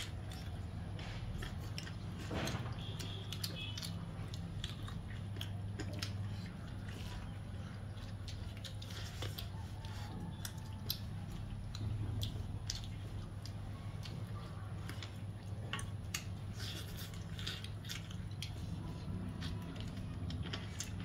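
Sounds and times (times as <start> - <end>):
wet chewing smacks: 0.0 - 21.0.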